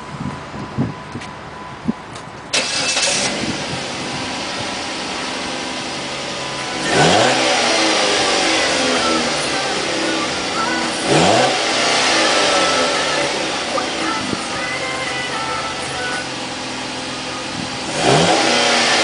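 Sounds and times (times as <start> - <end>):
car engine starting and idling: 0.0 - 19.0
engine revving: 2.6 - 19.0.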